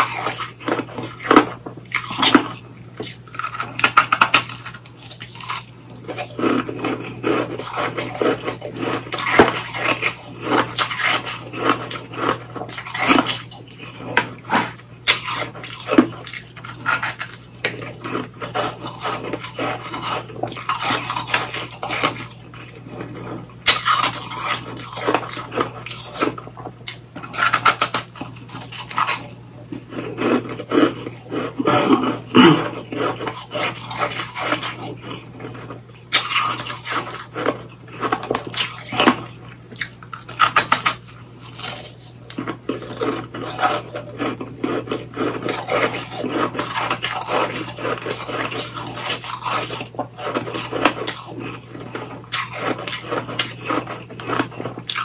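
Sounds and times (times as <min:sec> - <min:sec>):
chewing crunchy shaved ice: 0:00.0 - 0:55.0.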